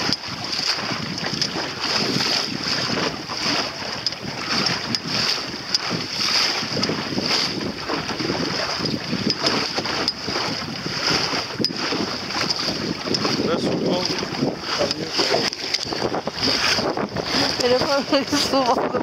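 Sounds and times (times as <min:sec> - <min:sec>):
water swishing along boat hull: 0:00.0 - 0:19.0
wind buffeting microphone: 0:00.0 - 0:19.0.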